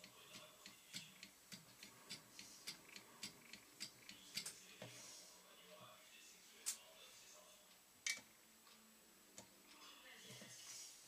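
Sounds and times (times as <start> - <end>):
soft hiss: 0.0 - 11.0.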